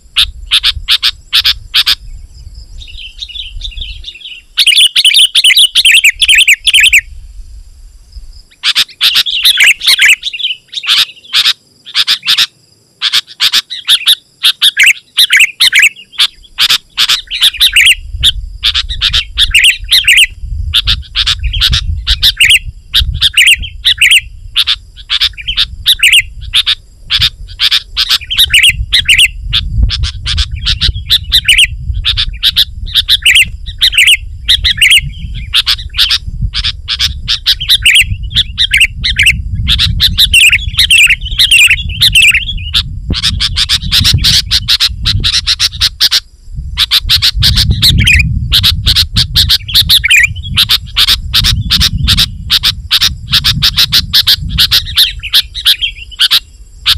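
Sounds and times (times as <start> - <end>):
bulbul singing: 0.0 - 7.2, 8.4 - 56.9.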